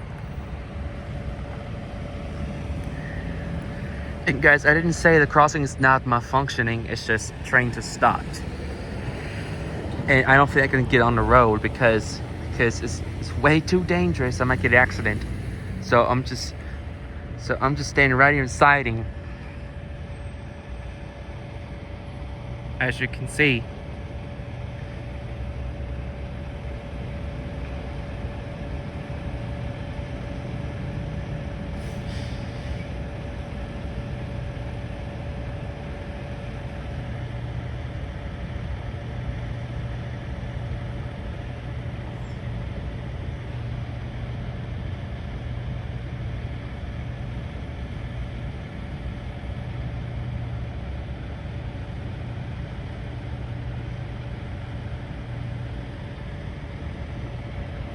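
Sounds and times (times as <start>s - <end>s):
constant hum: 0.0s - 57.9s
engines idling: 0.0s - 57.9s.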